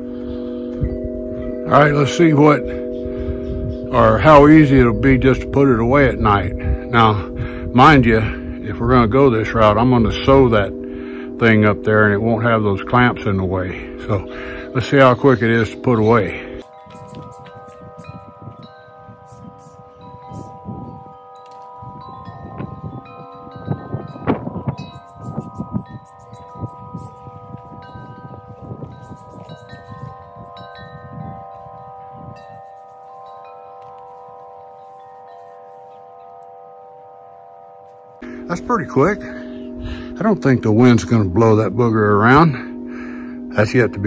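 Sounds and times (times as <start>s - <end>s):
wind chimes ringing: 0.0s - 44.0s.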